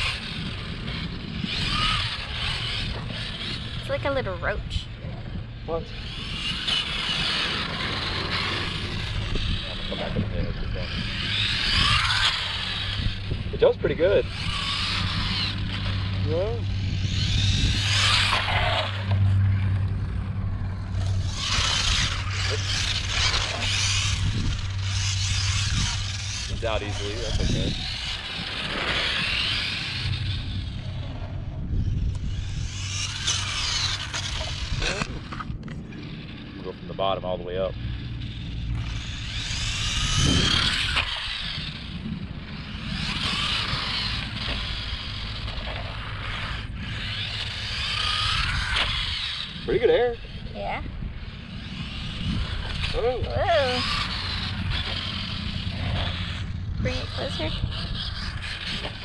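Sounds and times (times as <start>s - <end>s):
steady low hum: 0.0s - 59.0s
toy truck electric motor whining: 0.0s - 59.0s
tyres scraping on concrete: 6.0s - 19.8s, 21.0s - 31.4s, 32.3s - 36.4s, 38.1s - 59.0s.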